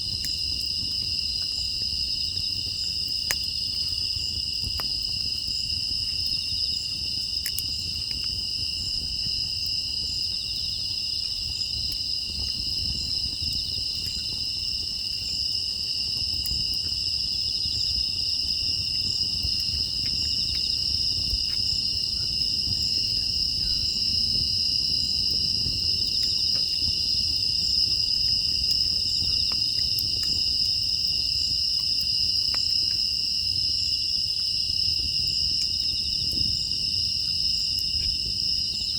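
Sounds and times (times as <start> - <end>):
faint crackles: 0.0 - 17.0, 17.6 - 33.2
crickets trilling: 0.0 - 38.9.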